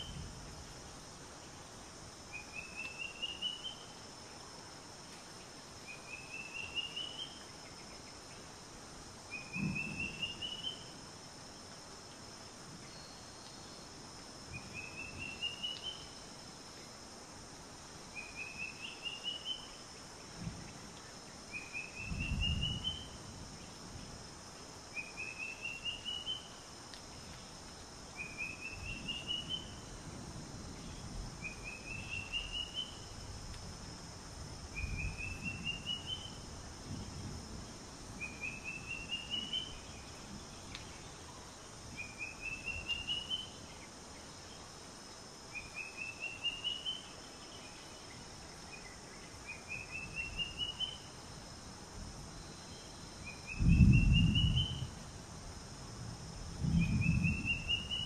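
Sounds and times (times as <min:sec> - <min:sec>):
high insect hum: 0:00.0 - 0:58.0.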